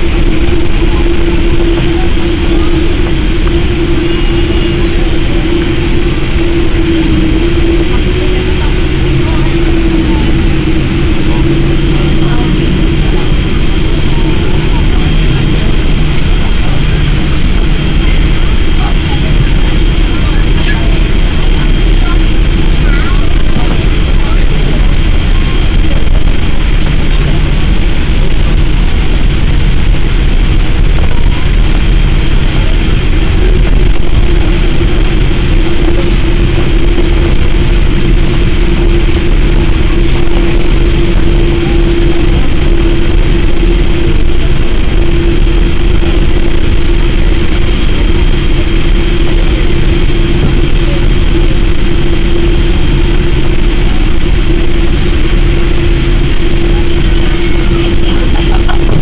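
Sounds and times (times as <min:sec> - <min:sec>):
aircraft rumbling along runway: 0:00.0 - 0:59.0
jet engines running: 0:00.0 - 0:59.0.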